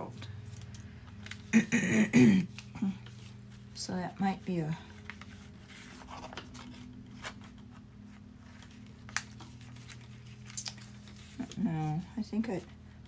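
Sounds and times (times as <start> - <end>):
magazine page rustling: 0.1 - 1.5, 2.5 - 3.9, 4.8 - 12.8.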